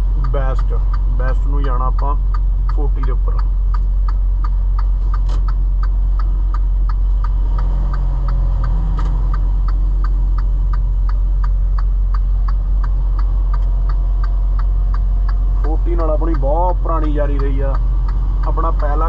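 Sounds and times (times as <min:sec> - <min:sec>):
diesel engine drone: 0:00.0 - 0:19.0
road noise: 0:00.0 - 0:19.0
turn signal ticking: 0:00.0 - 0:19.0.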